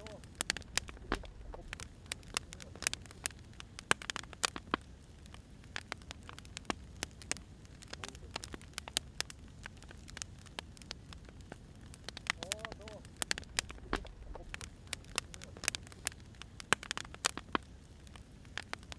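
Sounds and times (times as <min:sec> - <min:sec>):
low steady rumble: 0:00.0 - 0:07.8, 0:08.5 - 0:16.6
firewood crackling and popping: 0:00.0 - 0:18.9.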